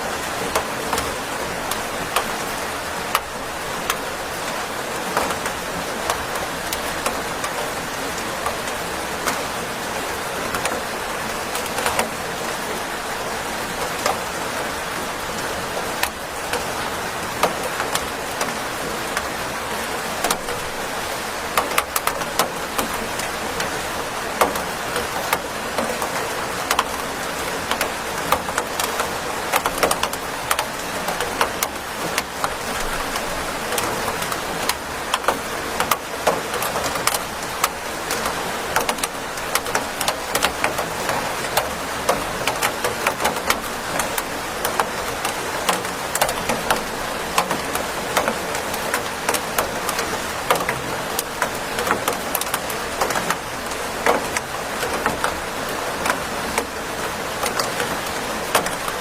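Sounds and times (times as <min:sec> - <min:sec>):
steady rain hiss: 0:00.0 - 0:59.0
raindrops tapping on hard surface: 0:00.4 - 0:09.6, 0:10.4 - 0:12.6, 0:13.6 - 0:14.8, 0:15.4 - 0:59.0.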